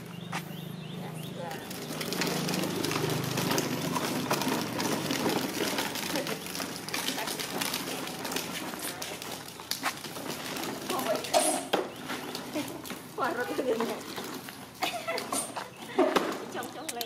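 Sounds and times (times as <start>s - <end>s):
plastic wheels rolling on paving: 0.0s - 17.0s.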